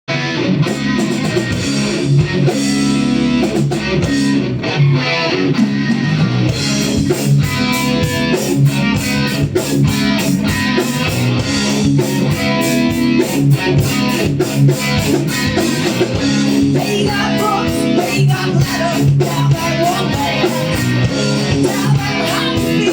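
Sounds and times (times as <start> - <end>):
live band with guitar and bass: 0.1 - 22.9.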